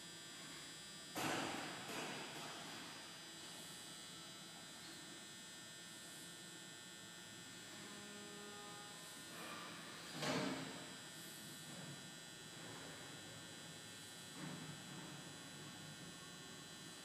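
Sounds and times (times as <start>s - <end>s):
electrical hum with high whine: 0.0s - 17.0s.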